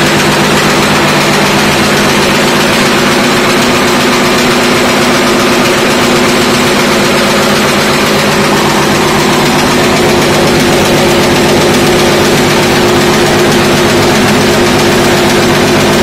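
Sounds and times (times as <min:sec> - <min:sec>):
steady motor hum: 0:00.0 - 0:16.0.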